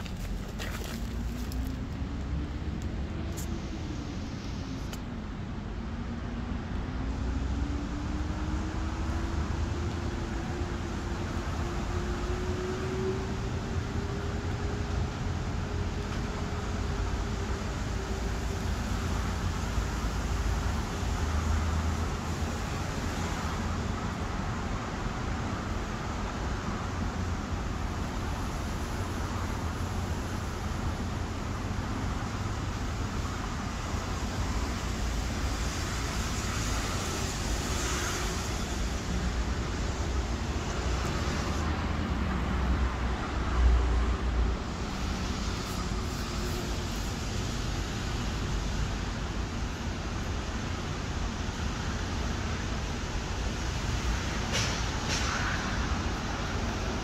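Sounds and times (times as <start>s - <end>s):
cars passing with hiss: 0.0s - 57.0s
road traffic rumble: 0.0s - 57.0s.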